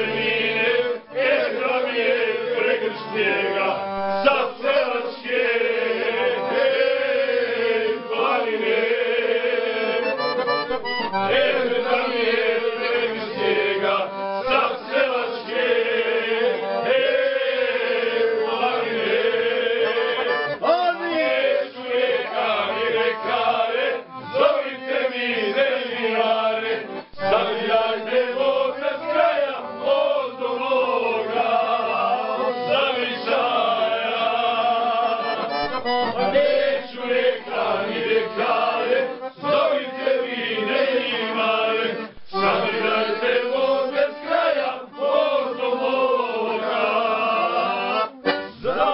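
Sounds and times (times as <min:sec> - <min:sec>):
men singing together: 0:00.0 - 0:48.9
piano accordion: 0:00.0 - 0:48.9.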